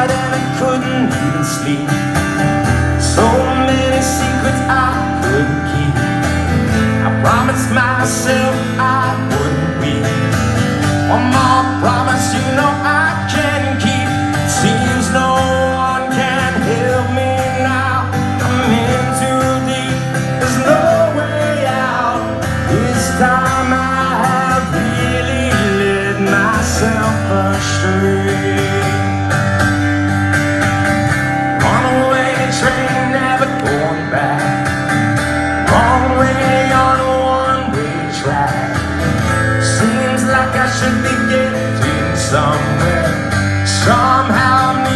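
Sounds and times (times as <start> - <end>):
man singing into a microphone: 0.0 - 29.3, 31.5 - 34.9, 35.5 - 44.9
strummed acoustic guitar: 0.0 - 44.9.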